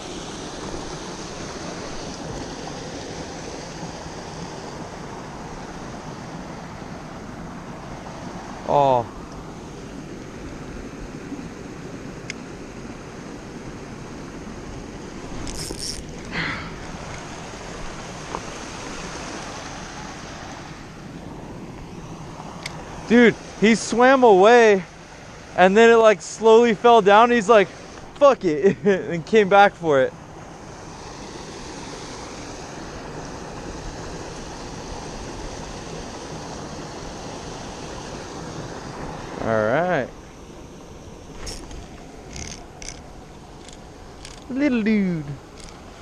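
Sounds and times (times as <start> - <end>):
creek water rushing: 0.0 - 46.0.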